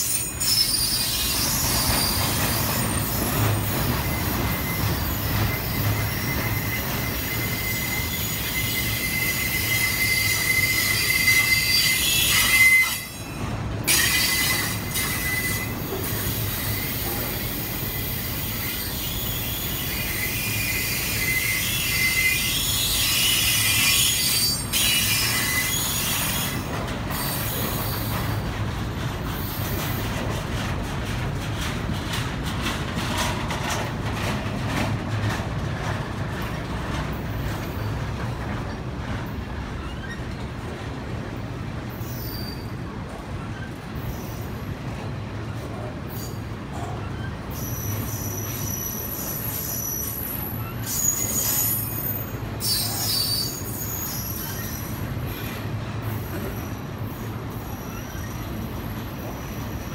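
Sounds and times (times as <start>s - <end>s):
low rumble of train cars: 0.0s - 59.9s
train wheels squealing on rails: 0.0s - 59.9s.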